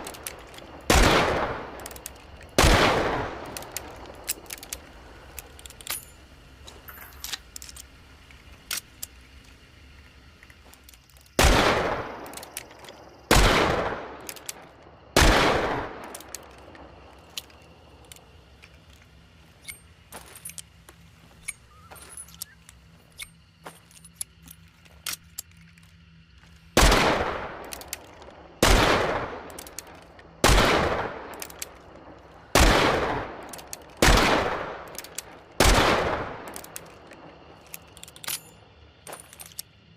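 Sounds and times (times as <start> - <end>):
gun handling clicks: 0.0 - 39.8.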